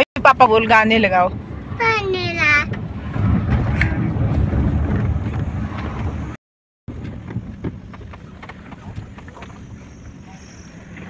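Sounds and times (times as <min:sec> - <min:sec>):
car road noise: 0:00.0 - 0:11.0
wind buffeting microphone: 0:00.3 - 0:11.0.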